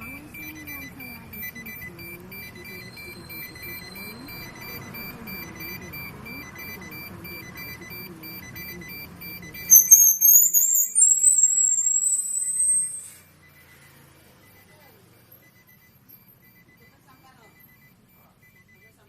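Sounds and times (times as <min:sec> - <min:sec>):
electronic beeping: 0:00.0 - 0:19.0.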